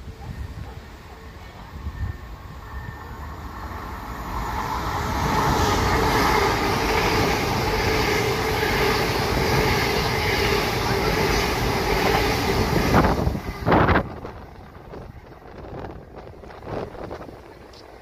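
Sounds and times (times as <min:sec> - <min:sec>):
train passing close by: 0:00.0 - 0:18.0.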